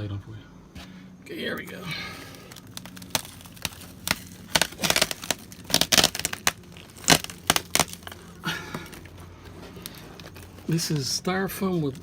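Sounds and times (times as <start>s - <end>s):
styrofoam cracking and crunching: 1.5s - 12.0s.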